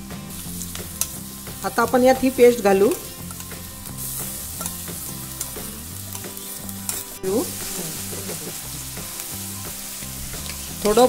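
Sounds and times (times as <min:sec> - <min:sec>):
onions sizzling in hot oil: 0:00.0 - 0:11.0
soft background music: 0:00.0 - 0:11.0.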